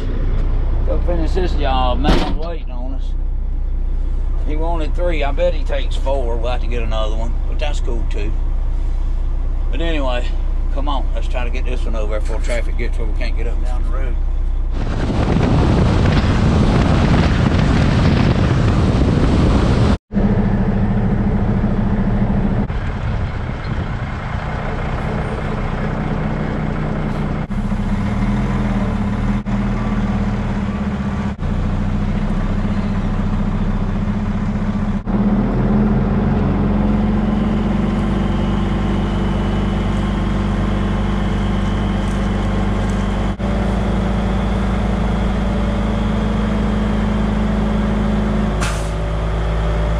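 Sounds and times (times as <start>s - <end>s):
truck diesel engine driving: 0.0s - 49.9s.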